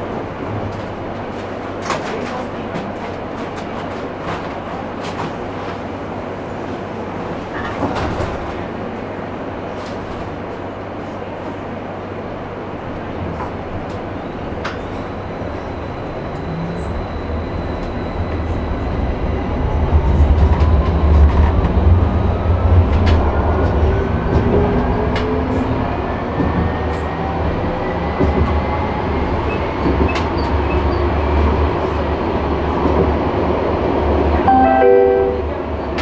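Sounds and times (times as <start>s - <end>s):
tram low rumble: 0.0s - 36.0s.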